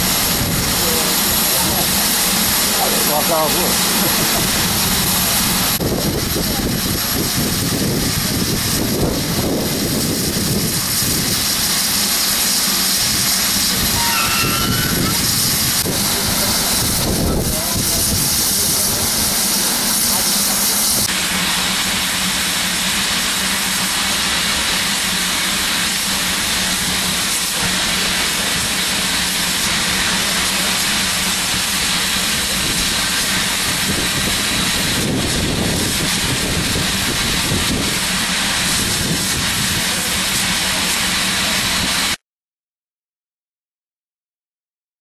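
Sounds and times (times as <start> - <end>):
steam hissing: 0.0 - 42.2.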